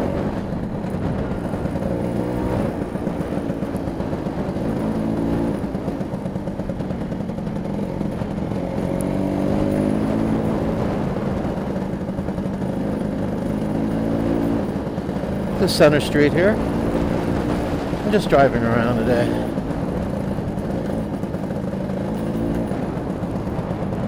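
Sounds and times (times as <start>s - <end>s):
scooter engine accelerating: 0.0s - 24.0s.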